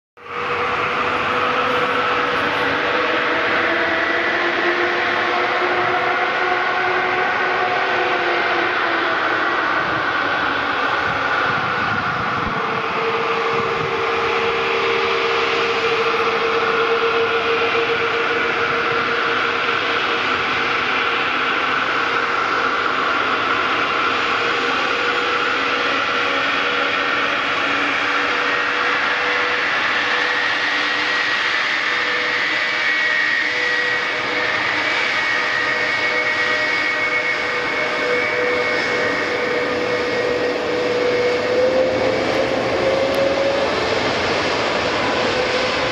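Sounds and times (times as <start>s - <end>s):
jet engines running: 0.2s - 45.9s.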